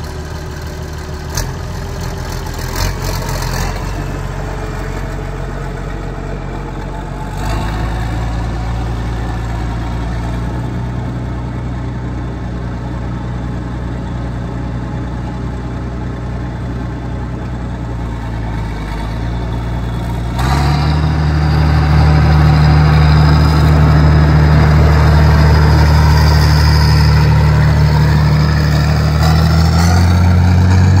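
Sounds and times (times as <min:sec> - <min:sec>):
tractor diesel engine revving: 0:00.0 - 0:31.0.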